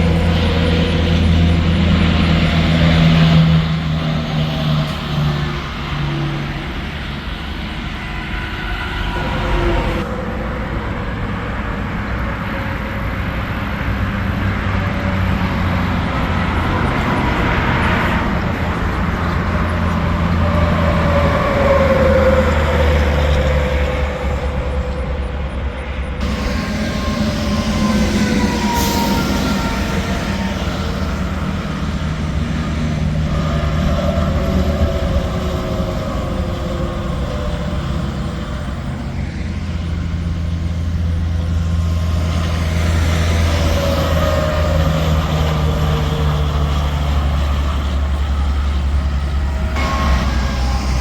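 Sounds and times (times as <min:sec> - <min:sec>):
highway traffic passing: 0:00.0 - 0:51.0
passing vehicle whine: 0:00.0 - 0:51.0.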